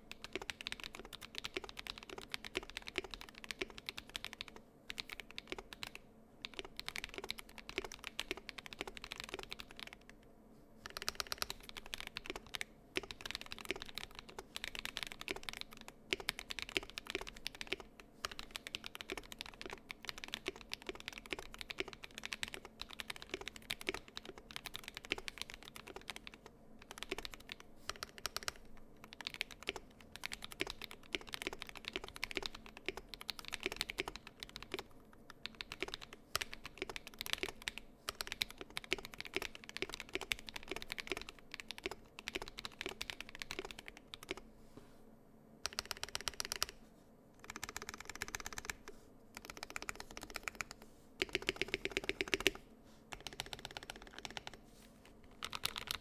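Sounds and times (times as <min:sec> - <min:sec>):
mechanical keyboard typing: 0:00.1 - 0:10.2, 0:10.8 - 0:44.4, 0:45.6 - 0:46.8, 0:47.4 - 0:54.6, 0:55.3 - 0:56.0.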